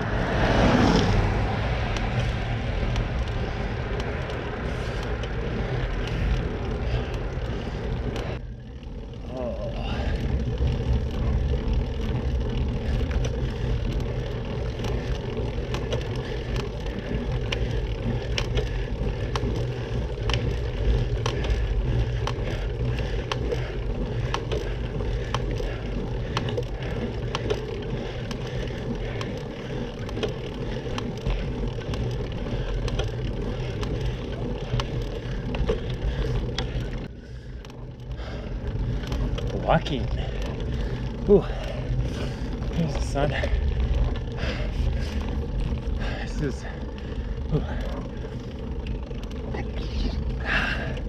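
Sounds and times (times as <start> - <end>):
bicycle road noise: 0.0 - 51.0
sharp ticks and clicks: 0.9 - 51.0.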